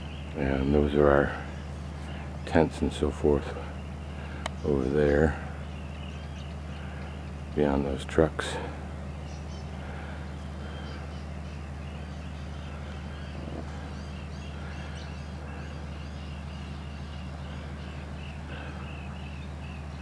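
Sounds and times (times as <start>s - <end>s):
birds calling: 0.0s - 20.0s
steady low hum: 0.0s - 20.0s.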